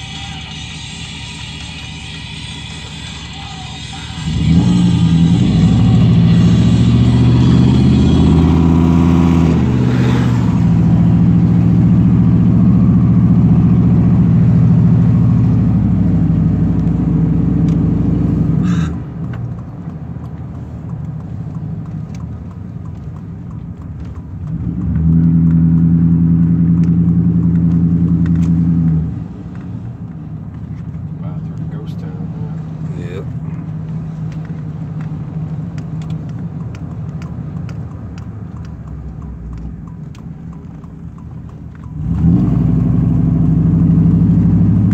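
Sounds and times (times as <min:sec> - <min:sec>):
low car drone: 0:00.0 - 0:44.9
road noise: 0:00.0 - 0:44.9.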